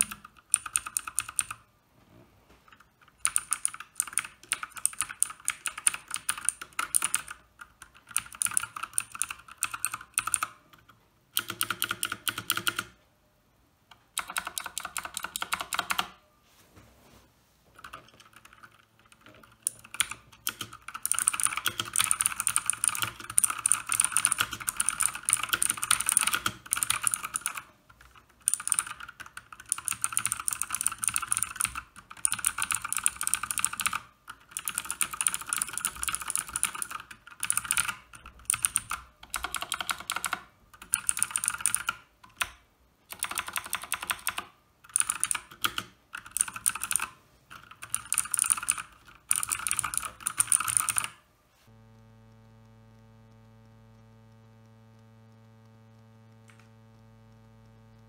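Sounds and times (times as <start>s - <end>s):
clicky mechanical keyboard typing: 0.0s - 1.7s, 2.7s - 13.0s, 13.9s - 16.2s, 17.8s - 51.2s, 55.4s - 58.0s.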